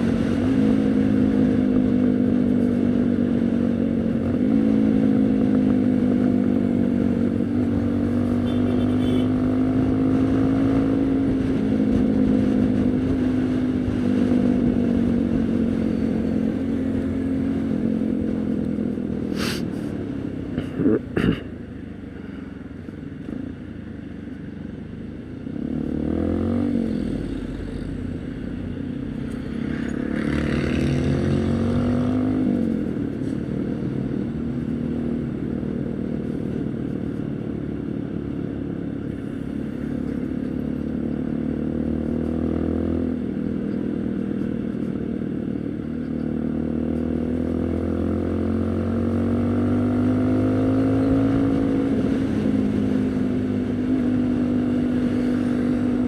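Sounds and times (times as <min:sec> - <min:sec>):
motorcycle engine revving: 0:00.0 - 0:21.4, 0:25.3 - 0:56.0.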